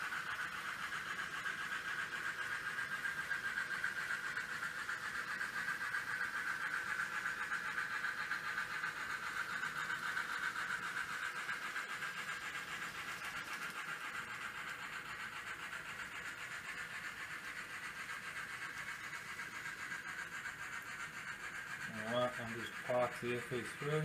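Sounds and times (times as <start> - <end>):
model trains whirring on rails: 0.0 - 24.0.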